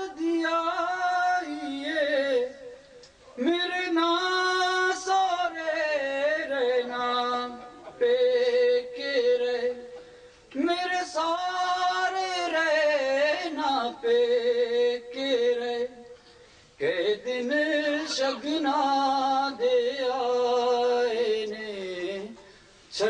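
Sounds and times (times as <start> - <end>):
man singing a lament: 0.0 - 16.2, 16.8 - 23.0.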